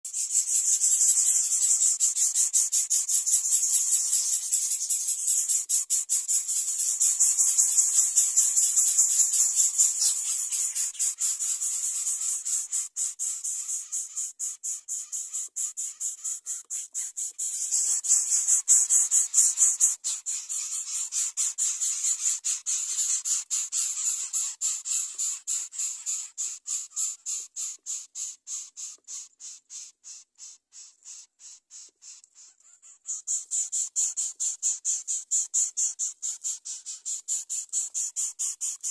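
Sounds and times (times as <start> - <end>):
nestlings begging with rasping hiss: 0.1 - 38.9.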